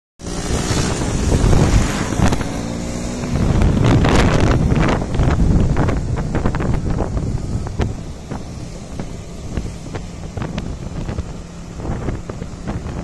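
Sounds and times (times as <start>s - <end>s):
motorcycle engine running: 0.2s - 13.0s
wind buffeting microphone: 0.2s - 13.0s.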